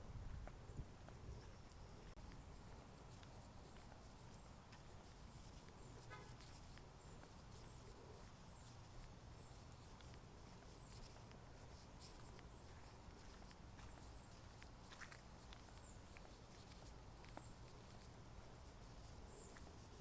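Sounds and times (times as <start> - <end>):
faint footsteps: 0.0 - 20.0
soft ticks and rustles: 0.2 - 20.0.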